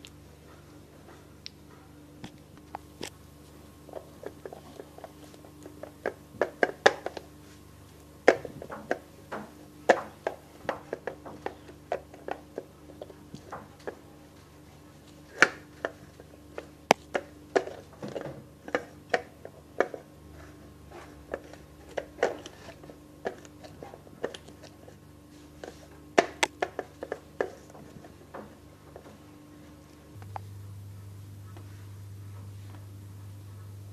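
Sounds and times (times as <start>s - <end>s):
faint hum: 0.0s - 33.9s.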